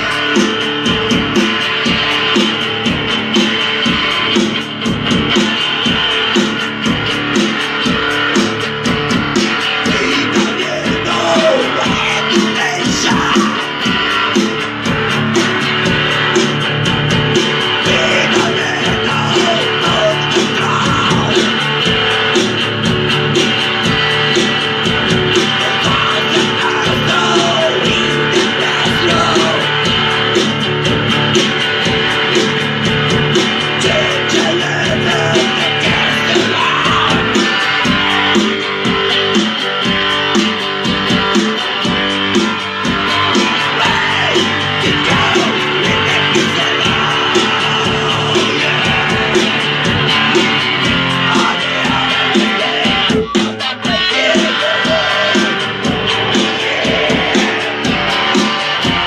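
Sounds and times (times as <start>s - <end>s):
guitar music: 0.0s - 59.0s.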